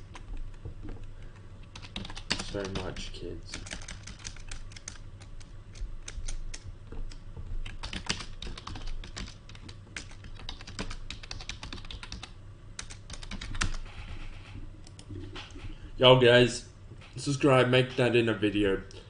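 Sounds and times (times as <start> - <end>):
keyboard typing: 0.0 - 15.8.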